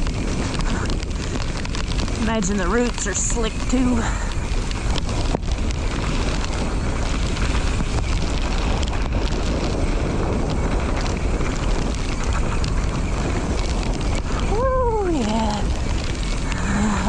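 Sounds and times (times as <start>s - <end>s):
bike rattling: 0.0s - 17.0s
tyres rolling on wet dirt: 0.0s - 17.0s
wind rushing over microphone: 0.0s - 17.0s.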